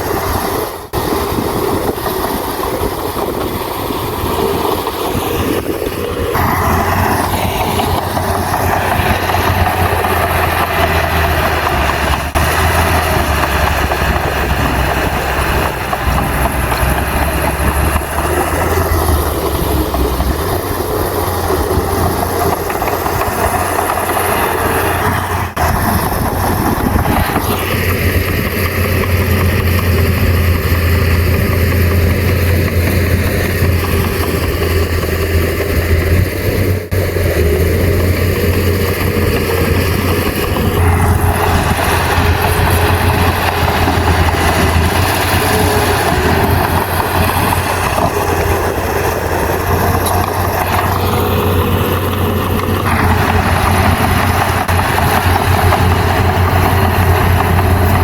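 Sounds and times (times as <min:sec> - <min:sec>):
diesel engine deep hum: 0:00.0 - 0:58.0
loud harsh machine noise: 0:00.0 - 0:58.0.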